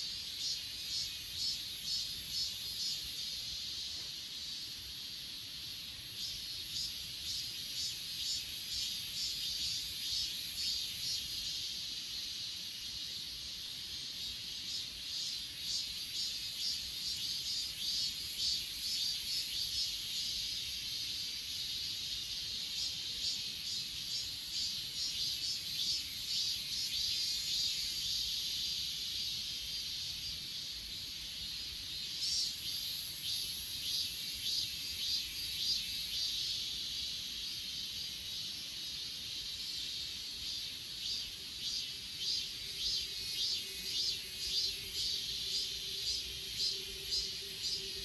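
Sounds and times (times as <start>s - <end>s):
high-pitched insect trill: 0.0s - 48.0s
insects chirping: 0.0s - 48.0s.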